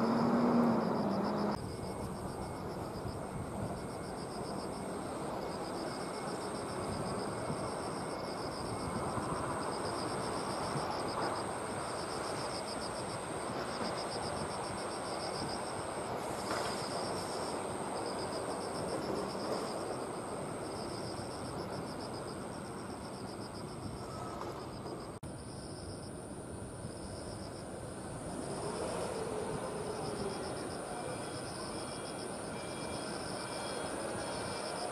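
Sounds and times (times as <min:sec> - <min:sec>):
insect high whine: 0:00.0 - 0:34.9
insects pulsing chirp: 0:00.0 - 0:34.9.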